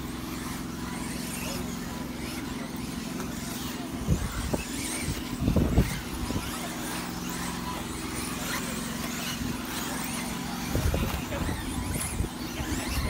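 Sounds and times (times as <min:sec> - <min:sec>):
rc car motor whine: 0:00.0 - 0:13.0
steady low hum: 0:00.0 - 0:13.0.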